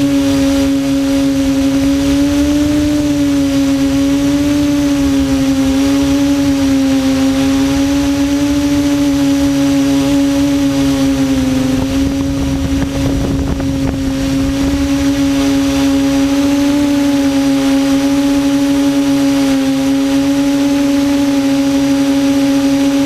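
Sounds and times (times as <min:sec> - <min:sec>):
quadcopter motors humming: 0:00.0 - 0:23.0.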